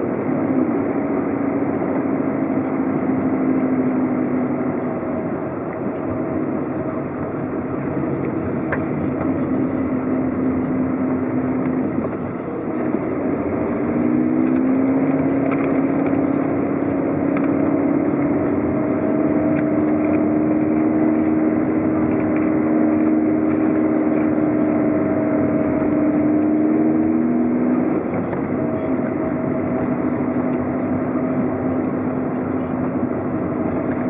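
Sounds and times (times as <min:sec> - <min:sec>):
car engine: 0:00.0 - 0:34.0
road noise: 0:00.0 - 0:34.0.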